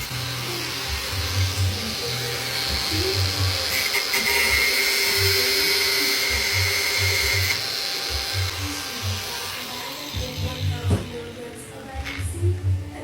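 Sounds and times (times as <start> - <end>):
power tool whining: 0.0 - 11.4.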